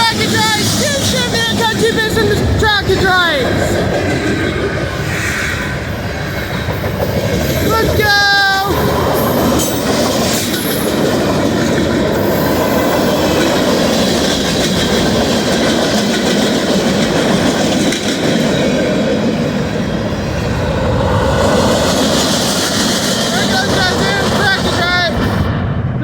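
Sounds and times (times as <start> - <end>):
train wheels clattering over rails: 0.0 - 25.5.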